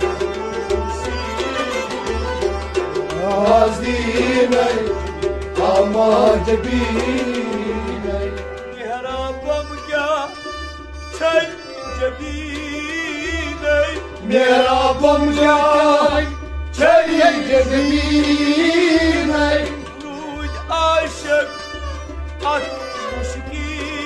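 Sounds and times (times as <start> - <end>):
harmonium chords: 0.0 - 24.0
men singing with vibrato: 3.0 - 10.6, 11.2 - 21.8, 22.4 - 24.0.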